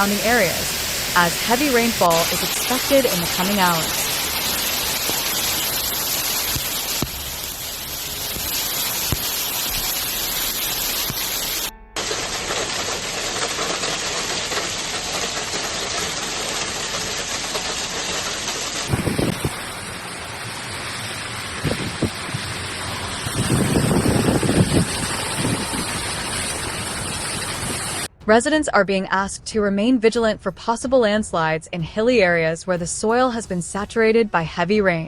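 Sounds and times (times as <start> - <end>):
heavy rain: 0.0 - 28.1.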